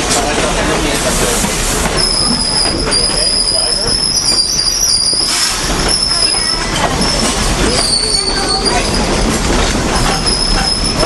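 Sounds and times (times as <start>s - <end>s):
train running rumble: 0.0s - 11.0s
train wheels squealing on rails: 1.9s - 11.0s.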